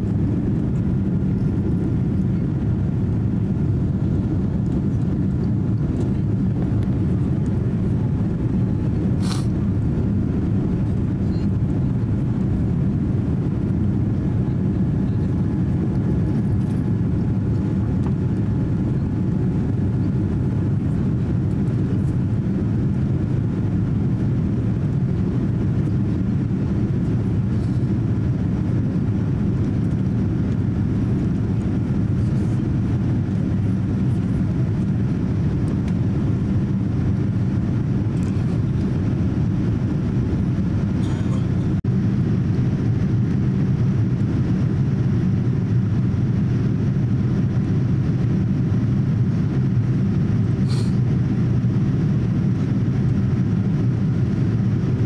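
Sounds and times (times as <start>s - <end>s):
airplane cabin engine roar: 0.0s - 55.0s.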